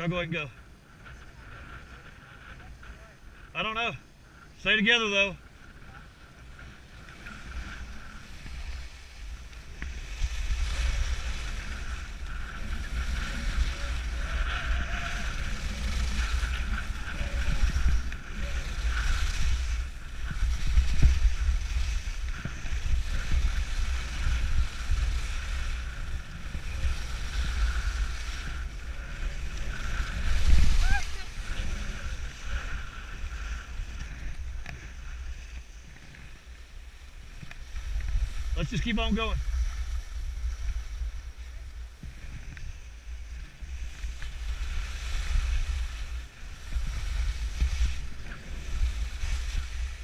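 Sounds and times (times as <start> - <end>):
skis scraping on packed snow: 0.0 - 50.0
wind rushing over microphone: 0.0 - 50.0.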